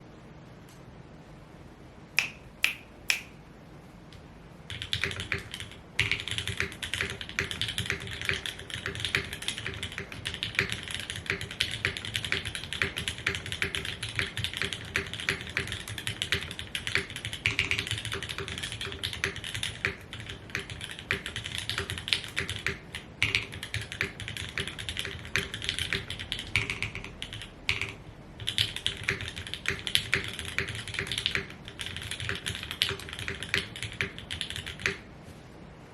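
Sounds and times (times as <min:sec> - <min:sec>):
mechanical keyboard typing: 0:04.7 - 0:35.1.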